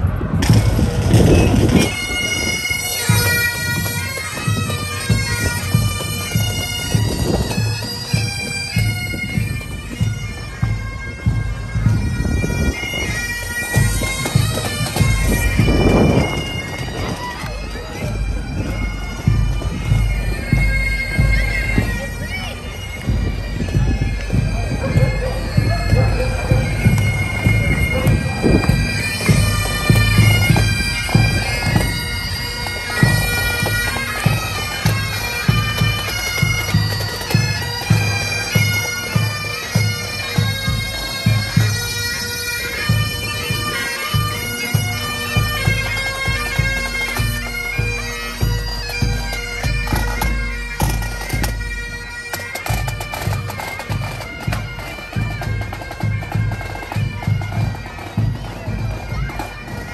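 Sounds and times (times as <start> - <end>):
bagpipes playing: 0.0 - 59.9
marching drums: 0.0 - 59.9.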